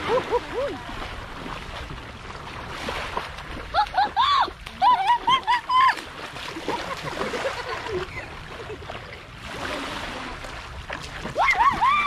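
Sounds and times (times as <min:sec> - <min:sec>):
feet splashing through water: 0:00.0 - 0:12.0
surf lapping at shore: 0:00.0 - 0:12.0.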